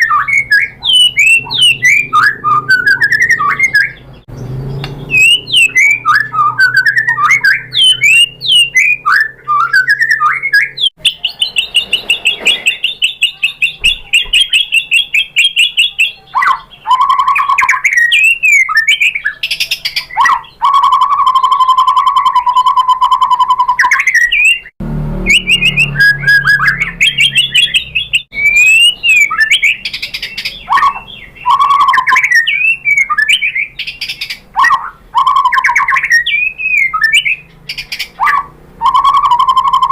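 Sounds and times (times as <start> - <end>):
low bird whistle: 0.0 - 4.2, 4.8 - 16.0, 20.2 - 37.5, 38.2 - 39.9
bird singing whistled phrases: 0.0 - 39.9
rapid bird trill: 0.0 - 39.9.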